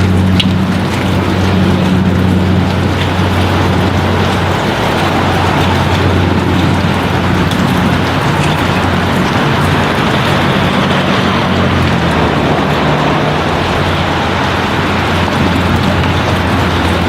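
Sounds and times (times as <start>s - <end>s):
constant rushing noise: 0.0s - 17.0s
propeller drone inside aircraft: 0.0s - 17.0s.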